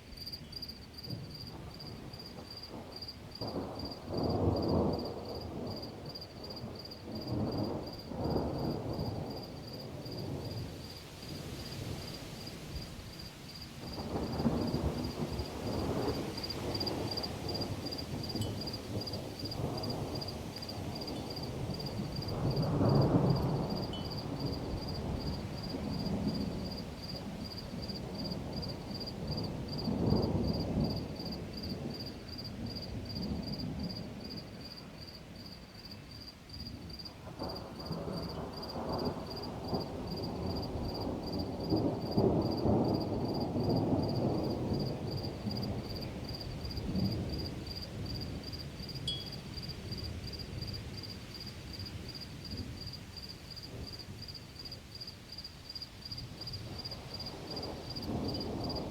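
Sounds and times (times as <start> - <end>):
cricket chirping: 0.0 - 58.9
thunder rumbling: 1.0 - 35.0, 36.6 - 51.1, 56.3 - 58.9.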